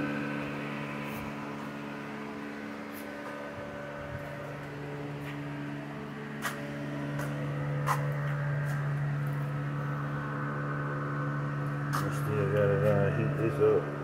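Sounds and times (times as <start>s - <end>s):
electric machine hum: 0.0s - 14.0s.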